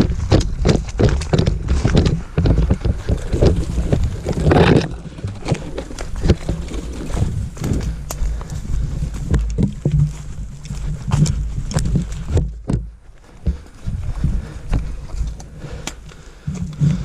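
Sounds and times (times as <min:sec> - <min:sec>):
wind on microphone: 0:00.0 - 0:15.8
footsteps: 0:00.0 - 0:17.0
gear knocking and rattling: 0:00.0 - 0:17.0
handling rumble: 0:00.0 - 0:17.0.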